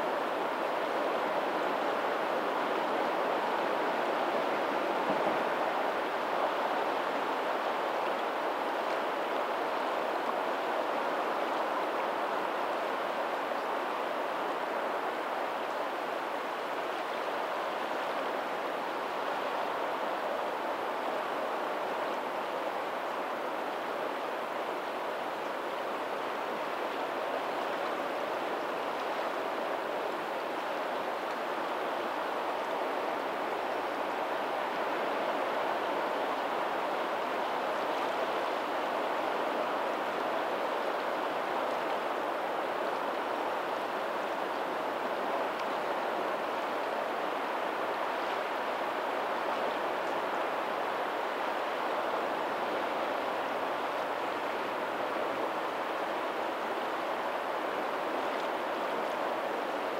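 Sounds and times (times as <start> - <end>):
faint ocean surf: 0.0 - 59.9.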